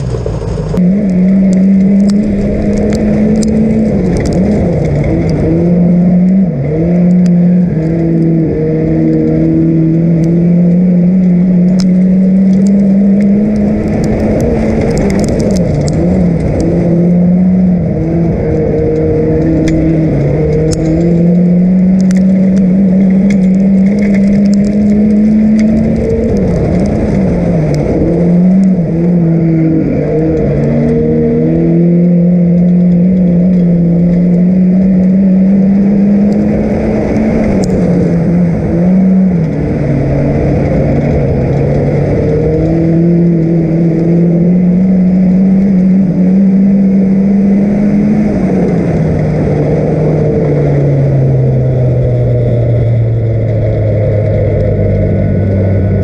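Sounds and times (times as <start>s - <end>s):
car engine at high revs: 0.0s - 56.0s.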